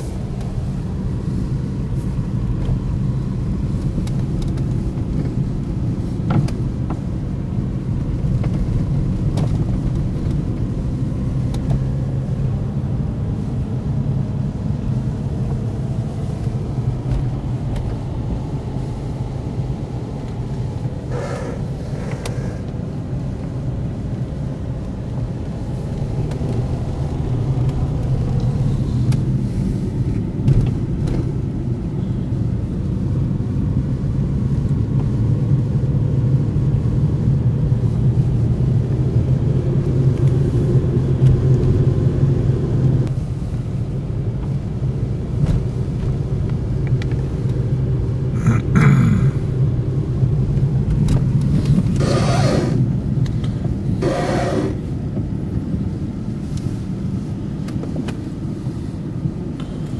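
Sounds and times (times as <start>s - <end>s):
car cabin engine hum: 0.0s - 59.9s.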